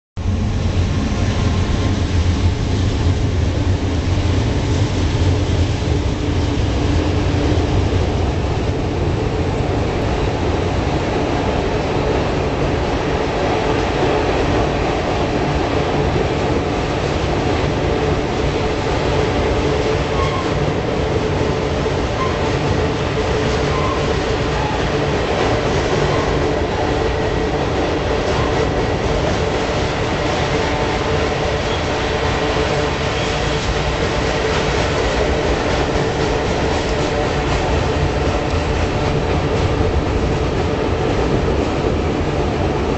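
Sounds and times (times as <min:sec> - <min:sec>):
locomotive deep rumble: 0:00.2 - 0:42.9
train wheels clattering on rails: 0:00.6 - 0:42.9.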